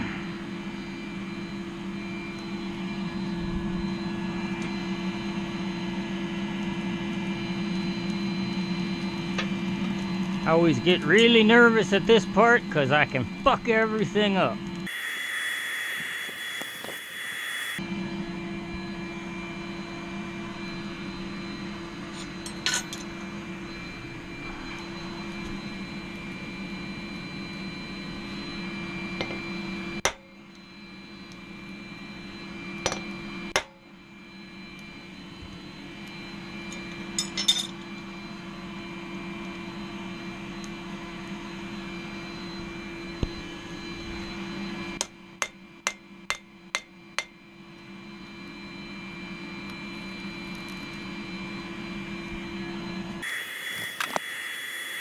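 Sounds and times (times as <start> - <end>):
gas forge burner humming: 0.0 - 55.0.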